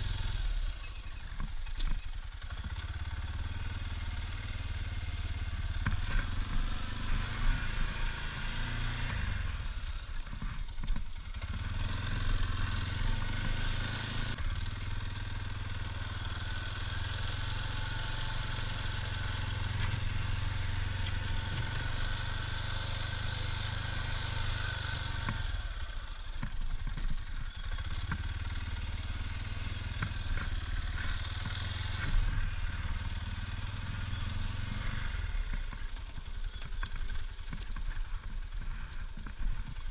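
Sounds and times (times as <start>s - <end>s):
atv engine under load: 0.0s - 39.9s.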